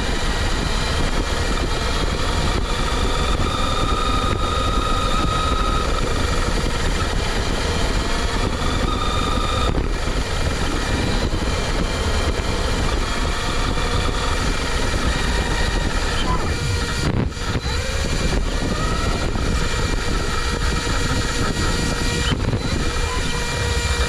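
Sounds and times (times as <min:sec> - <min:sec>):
high motor whine: 0:00.0 - 0:24.0
rc car driving rumble: 0:00.0 - 0:24.0.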